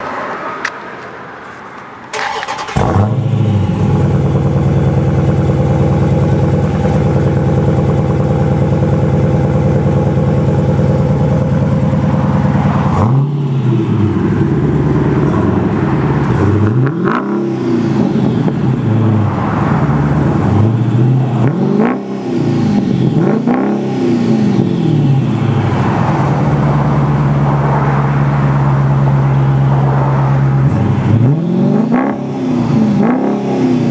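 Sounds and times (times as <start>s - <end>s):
car exhaust idling and revving: 1.4s - 33.9s.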